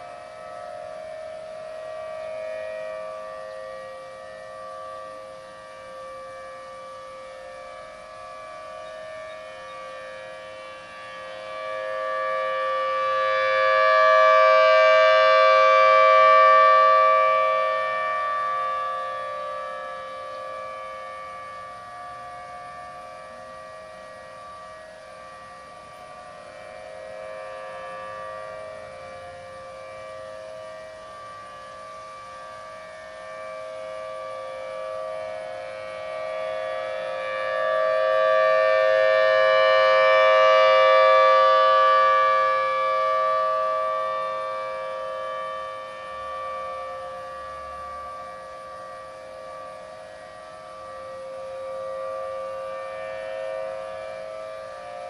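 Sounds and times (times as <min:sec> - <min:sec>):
distant sirens: 0:00.0 - 0:55.0
warning siren steady tone: 0:00.0 - 0:55.0.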